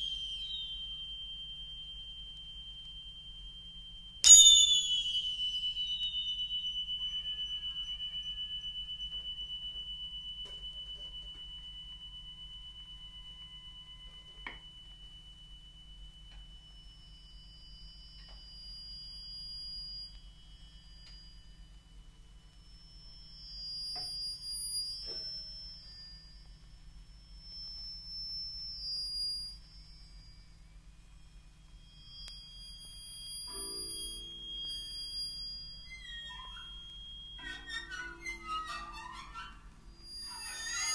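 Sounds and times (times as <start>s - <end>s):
thin high whistling tones: 0.0s - 40.9s.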